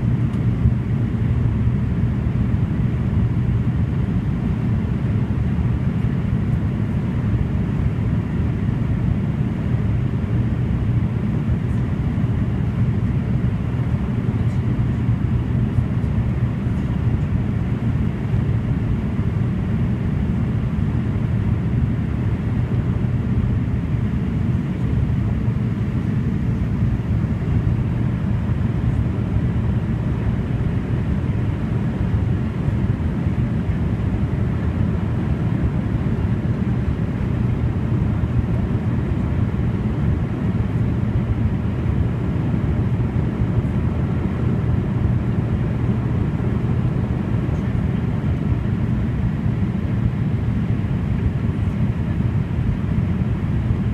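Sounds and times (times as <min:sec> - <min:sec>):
turboprop engines droning: 0:00.0 - 0:53.9.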